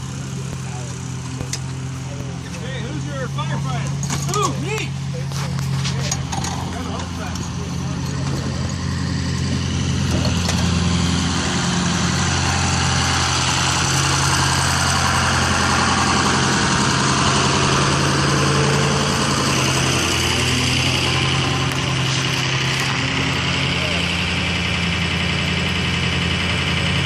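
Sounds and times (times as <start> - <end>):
fire engine running: 0.0 - 27.0.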